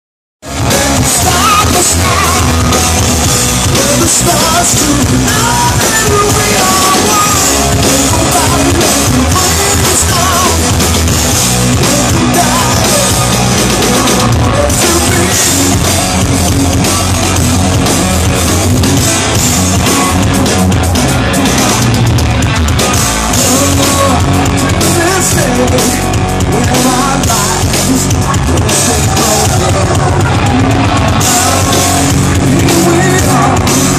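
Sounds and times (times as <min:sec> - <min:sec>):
bass guitar: 0:00.4 - 0:33.9
drum kit: 0:00.4 - 0:33.9
electric guitar: 0:00.4 - 0:33.9.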